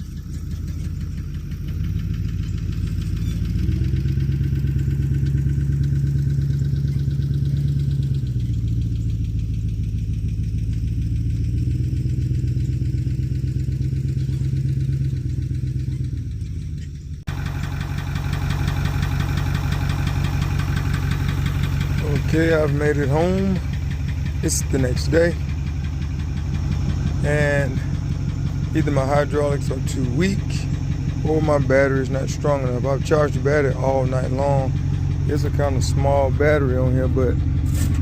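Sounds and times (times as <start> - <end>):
engine running steadily: 0.0 - 38.0
pickup engine under load: 0.0 - 38.0.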